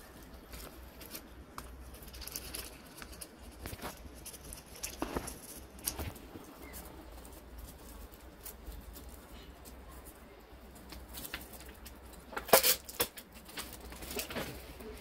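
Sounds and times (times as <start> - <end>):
loud paper crackles: 0.0 - 15.0
paper rustling and crinkling: 0.0 - 15.0.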